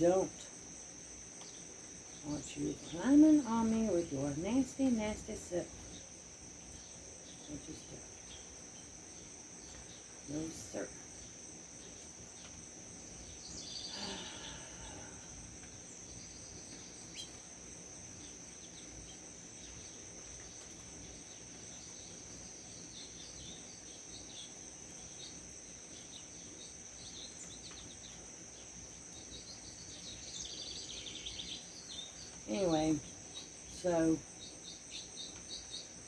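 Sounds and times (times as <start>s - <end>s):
high-pitched insect chorus: 0.0s - 36.0s
birds chirping: 1.4s - 36.0s.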